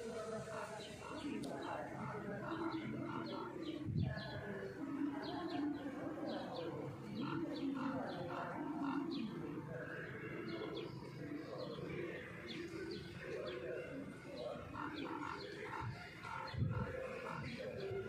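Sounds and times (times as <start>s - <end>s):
murmur of voices: 0.0s - 18.0s
small birds chirping: 0.0s - 18.0s.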